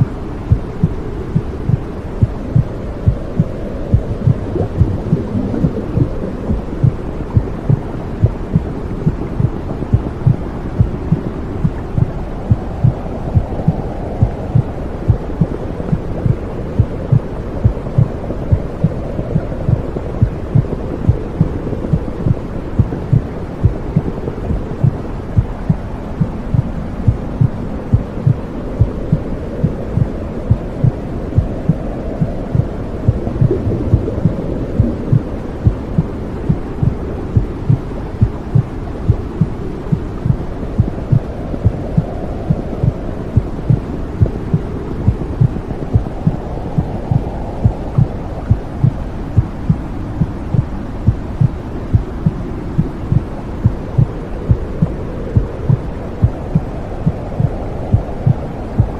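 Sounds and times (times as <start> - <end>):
low whooshing rush: 0.0 - 58.9
muffled heartbeat thumping: 0.0 - 58.9.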